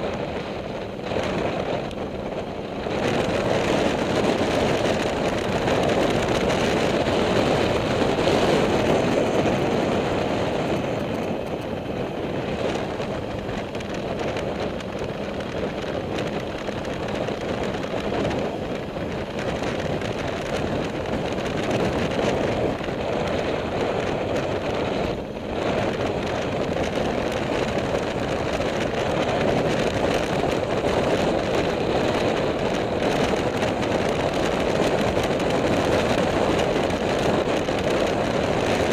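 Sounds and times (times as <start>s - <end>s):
motorcycle road noise: 0.0s - 38.9s
wind rush on microphone: 0.0s - 38.9s.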